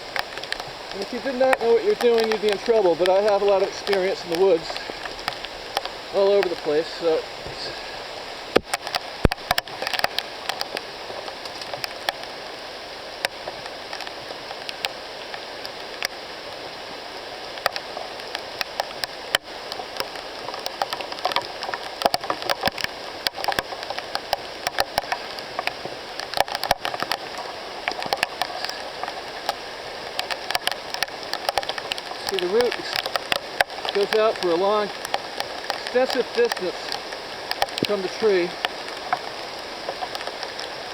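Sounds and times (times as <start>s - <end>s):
raindrops tapping close by: 0.0s - 40.9s
steady rain hiss: 0.0s - 40.9s.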